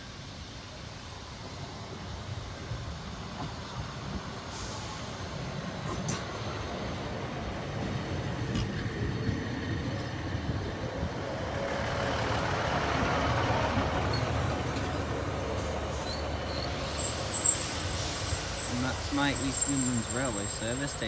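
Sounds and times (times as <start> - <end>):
diesel train passing slowly: 0.0 - 21.0.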